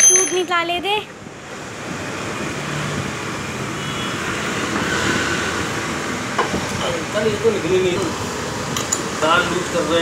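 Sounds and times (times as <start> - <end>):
road traffic rushing hum: 0.0 - 10.0.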